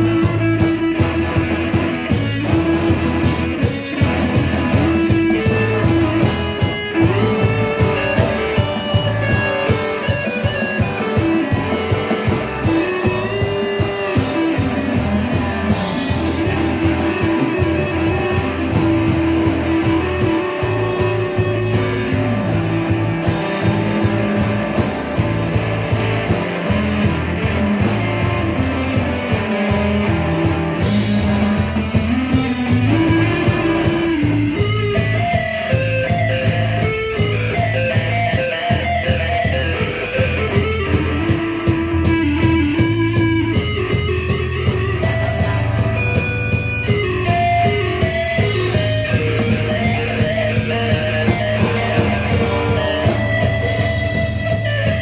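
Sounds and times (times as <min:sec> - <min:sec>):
driving drum kit: 0:00.0 - 0:55.0
electric guitar bending notes: 0:00.0 - 0:55.0.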